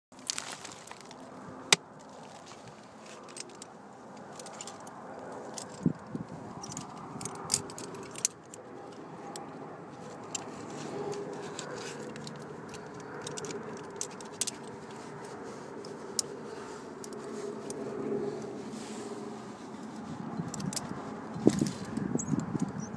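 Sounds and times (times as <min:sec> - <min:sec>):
metal carabiners clinking: 0:02.2 - 0:18.5, 0:19.6 - 0:22.9.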